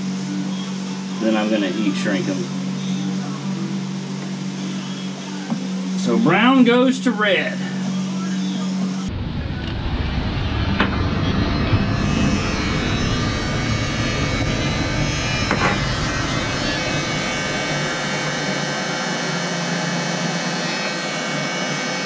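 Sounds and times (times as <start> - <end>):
heat gun fan whining: 0.0 - 22.0.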